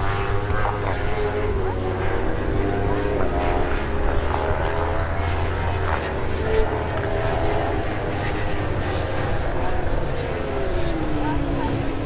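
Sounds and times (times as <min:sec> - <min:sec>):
motorcycle engines at high revs: 0:00.0 - 0:12.0.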